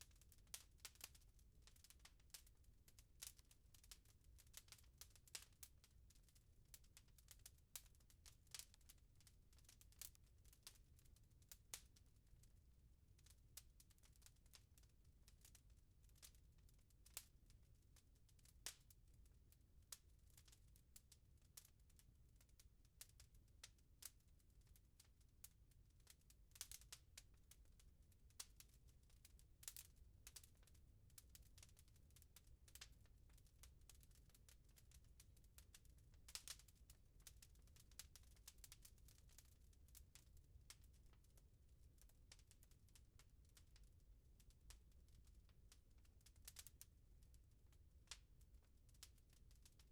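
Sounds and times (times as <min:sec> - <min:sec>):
faint wood fire crackling: 0:00.0 - 0:49.9.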